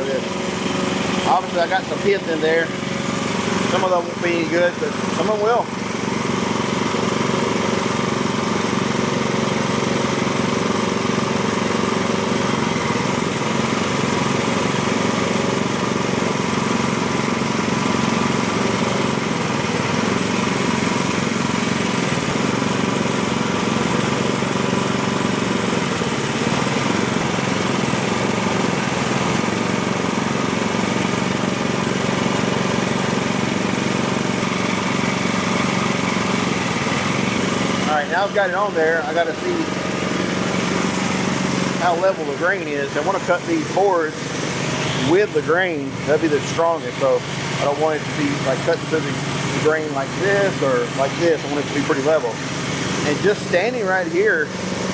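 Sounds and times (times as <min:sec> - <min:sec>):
sawmill engine idling: 0:00.0 - 0:54.9.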